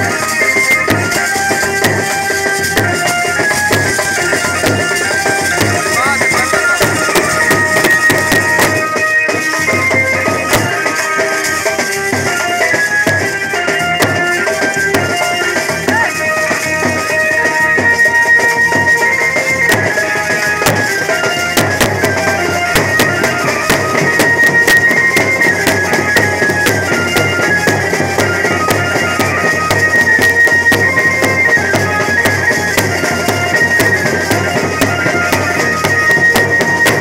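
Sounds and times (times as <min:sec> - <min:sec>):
amplified banjo melody: 0:00.0 - 0:37.0
drum strokes: 0:00.0 - 0:37.0.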